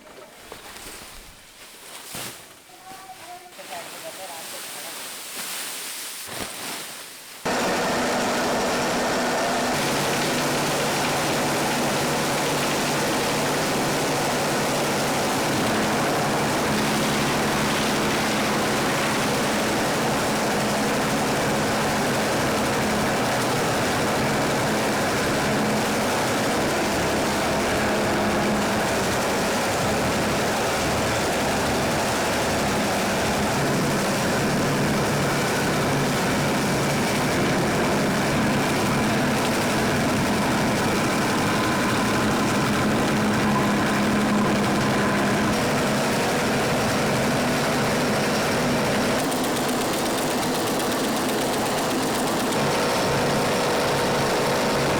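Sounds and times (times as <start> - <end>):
industrial machinery humming: 7.5 - 54.9.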